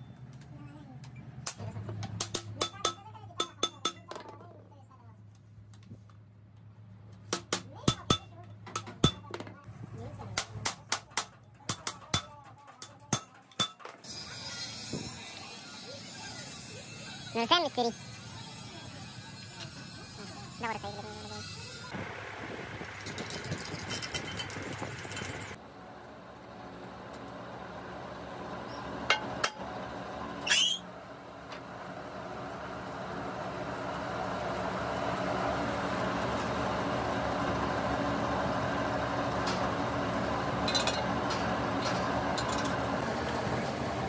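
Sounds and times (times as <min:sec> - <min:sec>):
workshop machine humming: 0:06.5 - 0:44.0.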